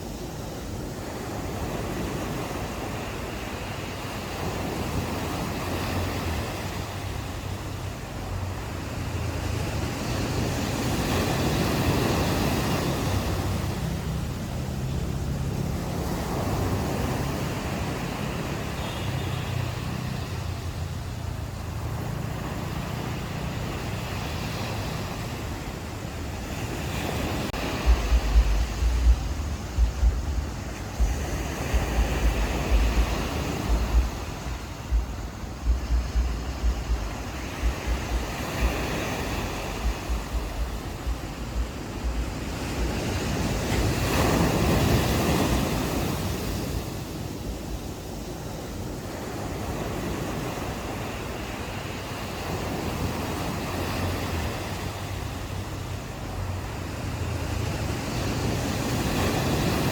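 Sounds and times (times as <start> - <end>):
ocean waves washing onto beach: 0.0 - 59.9
wind buffeting microphone: 0.0 - 59.9.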